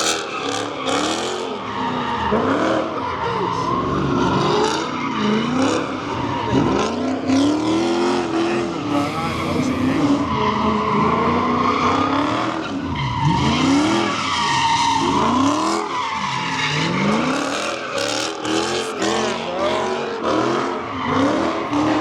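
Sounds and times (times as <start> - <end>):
car engine revving: 0.0 - 22.0
tyres skidding and squealing: 0.0 - 22.0.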